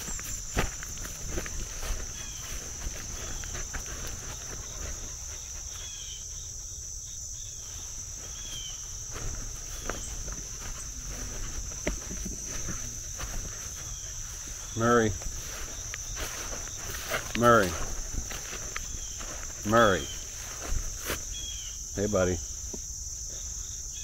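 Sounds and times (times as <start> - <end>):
footsteps rustling through grass: 0.0 - 23.6
insect chorus buzzing: 0.0 - 24.0.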